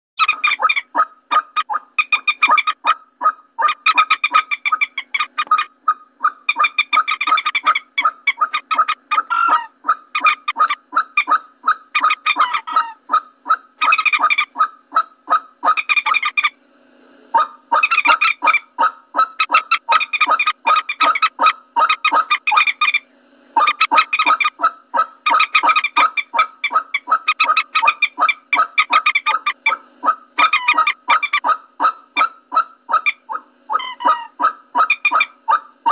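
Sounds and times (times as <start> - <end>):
moorhen calls: 0.2 - 16.6, 17.4 - 23.0, 23.6 - 35.9.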